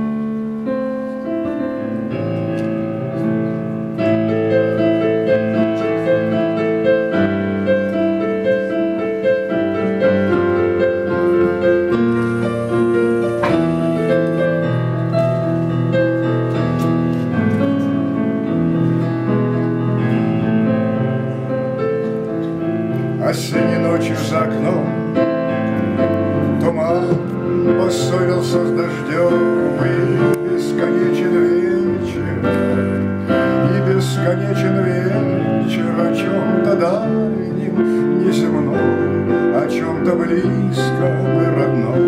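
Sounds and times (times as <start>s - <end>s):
digital piano playing: 0.0s - 42.0s.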